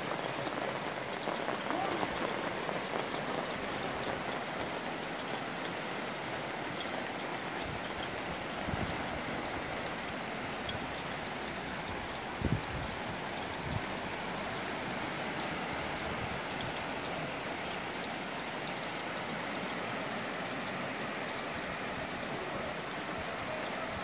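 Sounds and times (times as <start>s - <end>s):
light rain falling: 0.0s - 24.0s.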